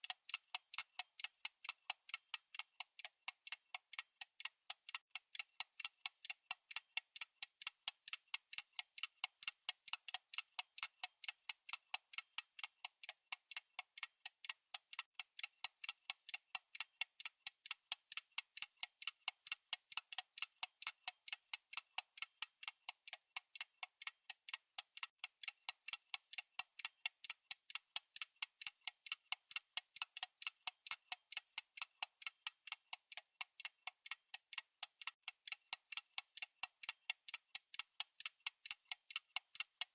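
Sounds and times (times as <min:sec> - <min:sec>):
timer ticking: 0:00.0 - 0:39.9.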